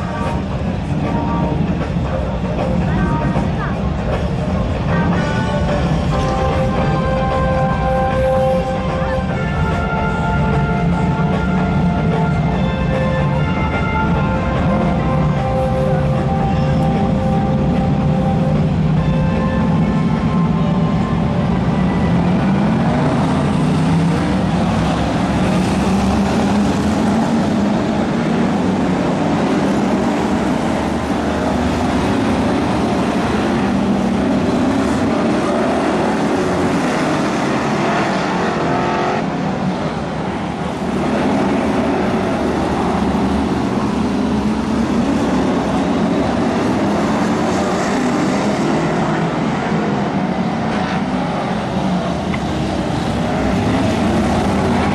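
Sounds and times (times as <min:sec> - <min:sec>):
racing car engines: 0:00.0 - 0:54.9.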